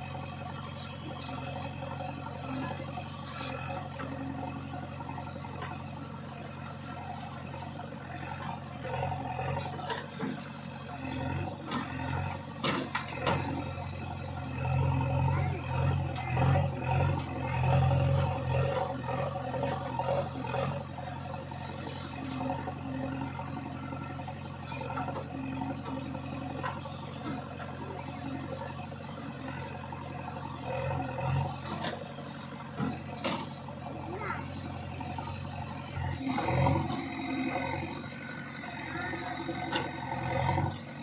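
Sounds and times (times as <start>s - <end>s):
diesel engine revving: 0.0s - 41.0s.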